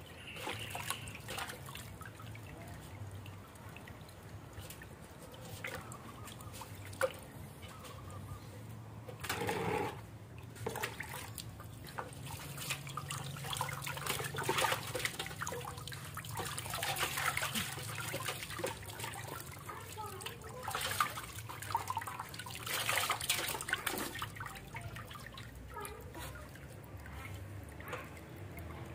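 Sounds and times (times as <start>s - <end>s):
water splashing in metal basin: 0.0s - 8.4s, 9.0s - 28.9s.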